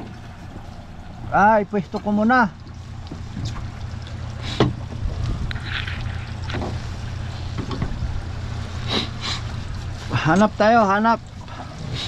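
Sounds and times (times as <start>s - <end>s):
boat motor humming: 0.0s - 12.0s
water sloshing against hull: 0.0s - 12.0s.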